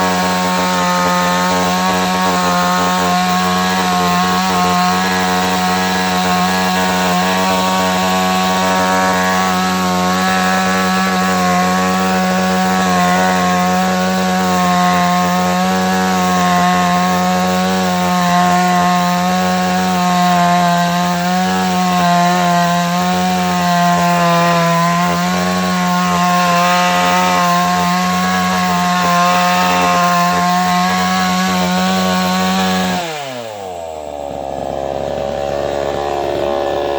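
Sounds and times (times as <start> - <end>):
chainsaw cutting log: 0.0 - 36.9.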